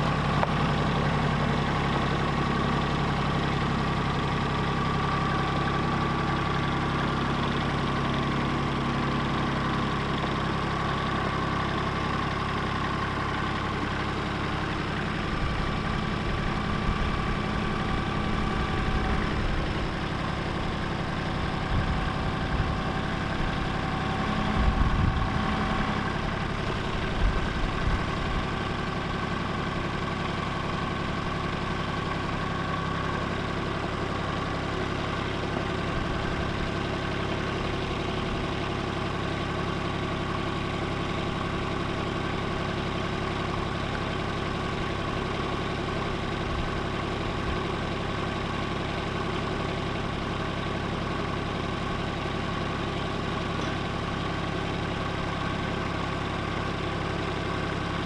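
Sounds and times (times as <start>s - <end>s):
diesel tractor engine idling: 0.0s - 58.0s.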